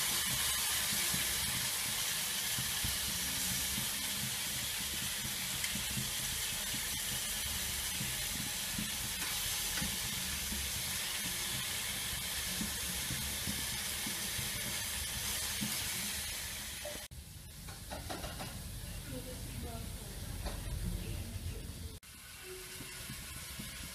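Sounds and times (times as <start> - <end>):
steaks sizzling in a frying pan: 0.0 - 18.0, 22.1 - 23.9.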